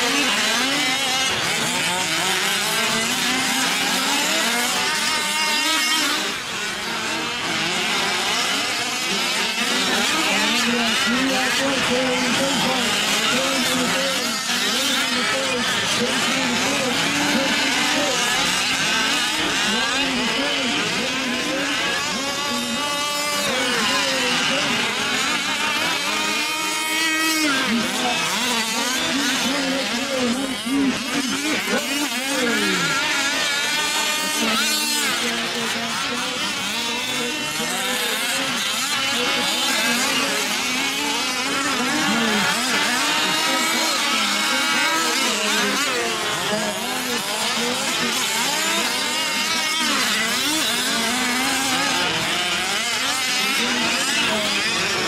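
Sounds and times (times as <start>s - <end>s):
model truck engines revving: 0.0s - 55.0s.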